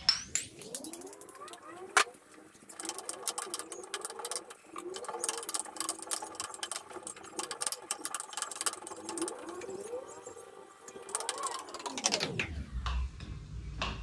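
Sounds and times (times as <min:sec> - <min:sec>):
wavering hum: 0:00.0 - 0:14.0.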